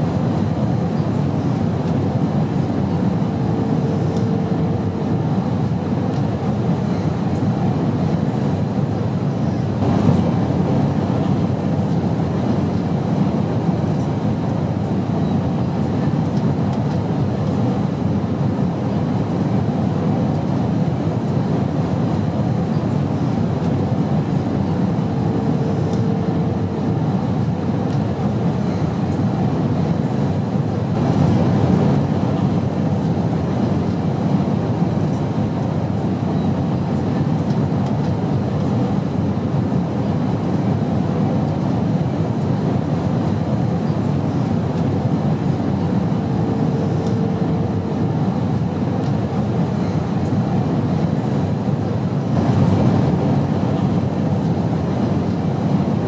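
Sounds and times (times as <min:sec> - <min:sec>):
airplane drone in flight: 0:00.0 - 0:56.0.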